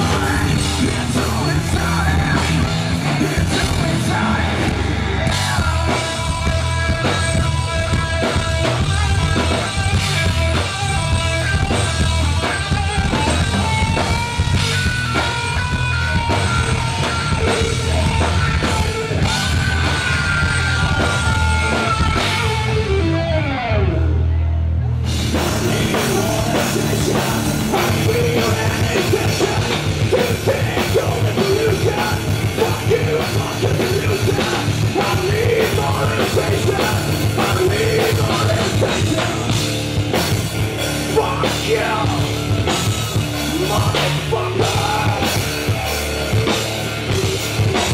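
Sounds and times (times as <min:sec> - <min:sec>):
electric guitar lead notes: 0:00.0 - 0:47.9
rock band playing: 0:00.0 - 0:47.9.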